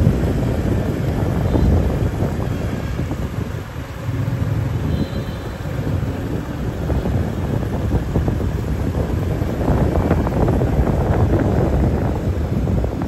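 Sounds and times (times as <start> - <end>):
motorbike engine rumble: 0.0 - 13.0
wind buffeting microphone: 0.0 - 13.0.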